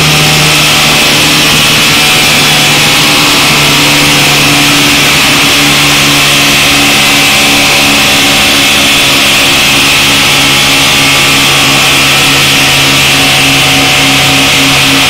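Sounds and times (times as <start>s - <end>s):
car engine running on dyno: 0.0s - 15.0s.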